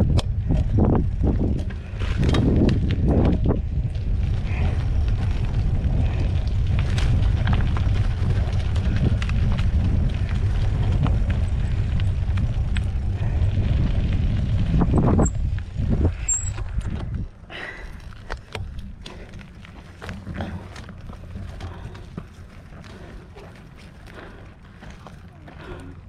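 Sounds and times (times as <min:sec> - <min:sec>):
bike clicks and rattles: 0:00.0 - 0:26.0
wind rumbling on microphone: 0:00.0 - 0:26.0.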